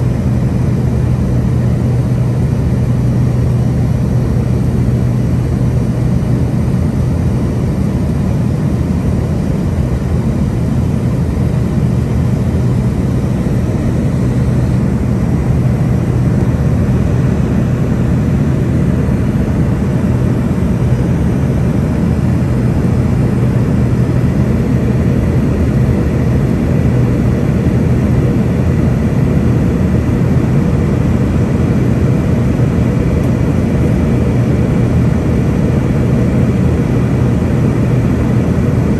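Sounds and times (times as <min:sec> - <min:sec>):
jet engine drone: 0:00.0 - 0:38.9
rushing airflow: 0:00.0 - 0:38.9.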